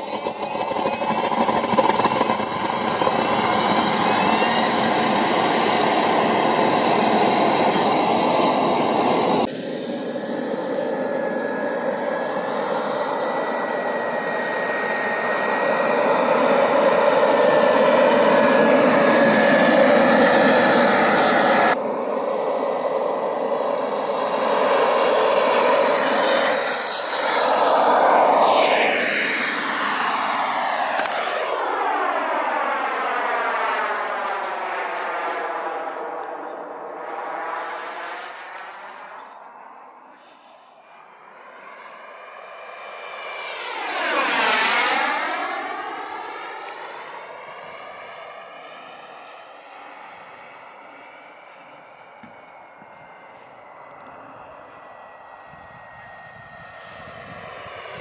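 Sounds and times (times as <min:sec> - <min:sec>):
model jet turbine whine: 0:00.0 - 0:58.0.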